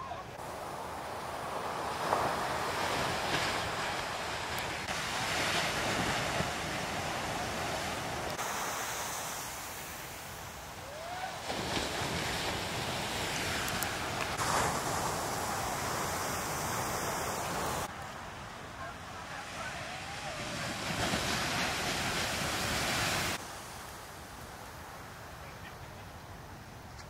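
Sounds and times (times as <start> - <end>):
heavy ocean waves breaking: 0.0 - 26.9.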